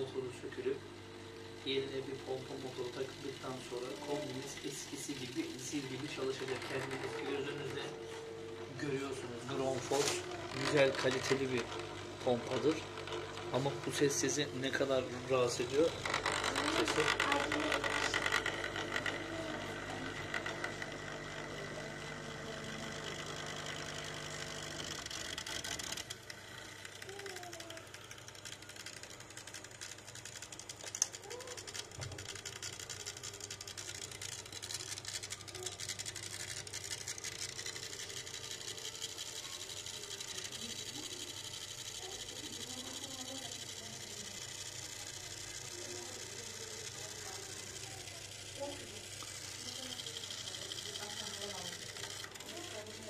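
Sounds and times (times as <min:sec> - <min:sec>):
pump motor humming: 0:00.0 - 0:53.0.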